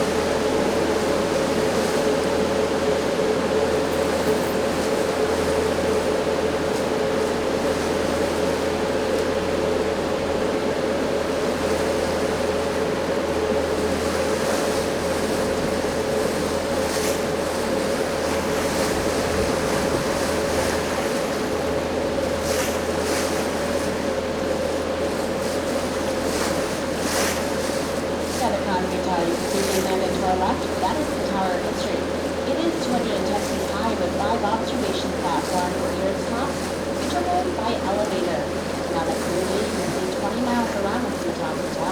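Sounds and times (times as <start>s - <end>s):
boat engine drone: 0.0s - 41.9s
water rushing along hull: 0.0s - 41.9s
wind: 0.0s - 41.9s.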